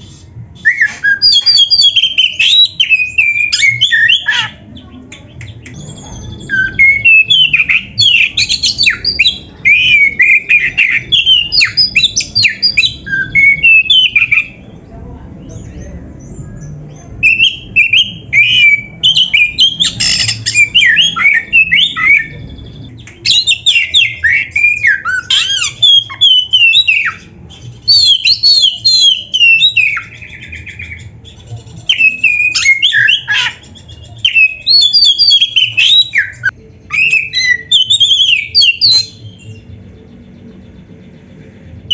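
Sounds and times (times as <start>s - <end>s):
songbird singing: 0.6s - 41.9s.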